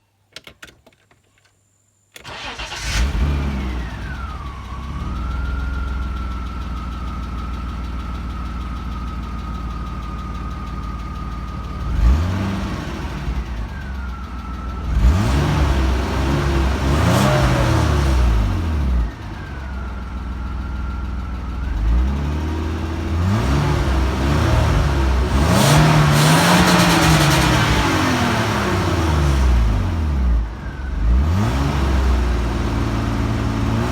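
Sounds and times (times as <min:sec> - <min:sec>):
car engine starting and revving: 0:02.2 - 0:09.5, 0:10.3 - 0:33.9.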